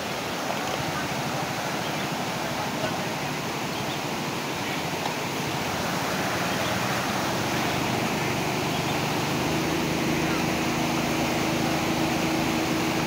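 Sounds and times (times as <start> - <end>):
floodwater pouring over concrete: 0.0 - 13.0.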